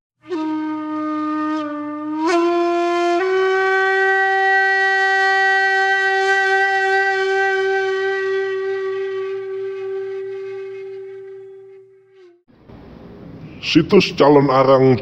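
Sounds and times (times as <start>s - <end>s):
long held reedy wind note: 0.2s - 12.5s.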